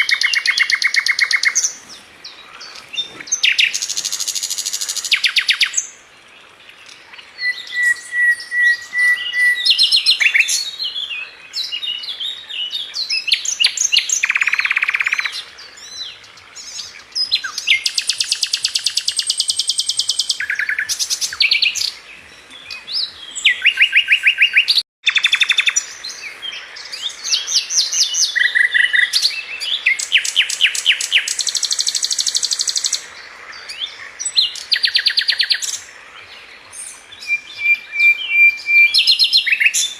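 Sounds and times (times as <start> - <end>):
bird singing trills and whistles: 0.0 - 6.0, 7.1 - 33.0, 36.7 - 39.9.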